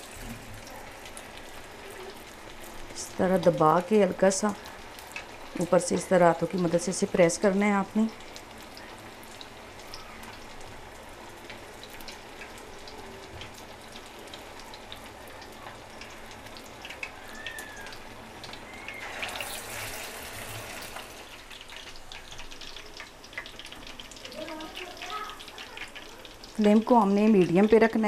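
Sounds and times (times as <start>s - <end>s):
hot oil bubbling and crackling: 0.0s - 28.0s
patty sizzling in oil: 0.0s - 28.0s.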